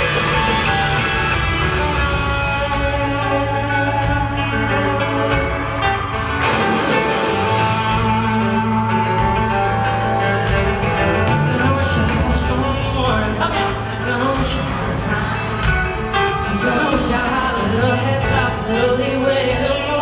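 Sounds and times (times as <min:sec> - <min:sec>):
live rock band instrumental: 0:00.0 - 0:20.0.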